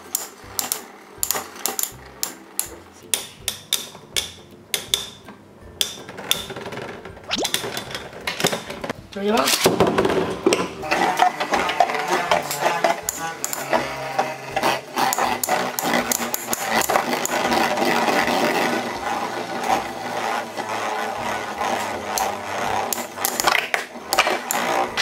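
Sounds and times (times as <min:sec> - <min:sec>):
spinning tops clacking together: 0:00.0 - 0:13.8, 0:14.6 - 0:18.4, 0:22.0 - 0:25.0
spinning tops whirring: 0:00.0 - 0:25.0.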